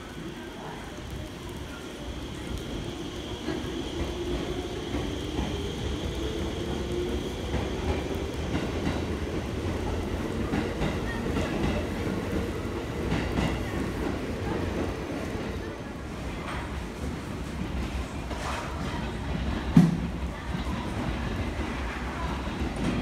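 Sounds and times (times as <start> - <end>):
electric train rumbling: 0.0 - 23.0.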